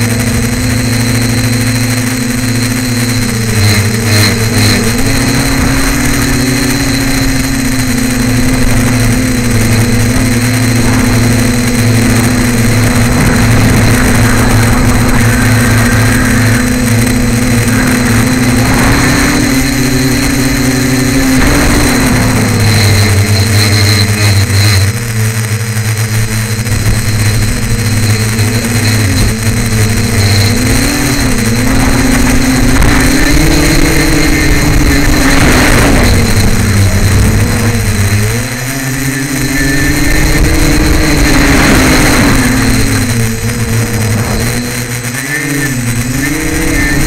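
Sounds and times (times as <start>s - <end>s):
drone motors buzzing: 0.0s - 47.0s.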